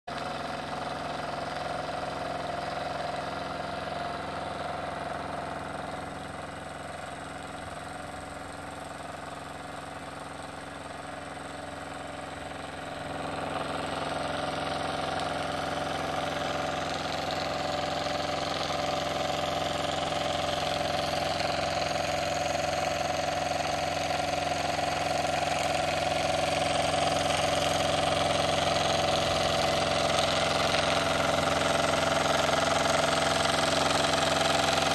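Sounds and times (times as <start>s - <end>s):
model steam engine running: 0.1s - 34.9s.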